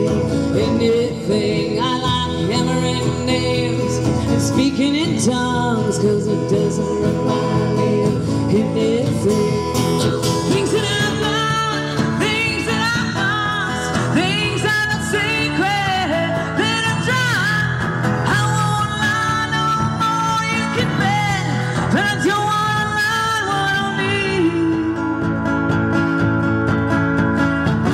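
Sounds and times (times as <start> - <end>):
person singing: 0.0 - 25.4
acoustic guitars strumming: 0.0 - 27.9.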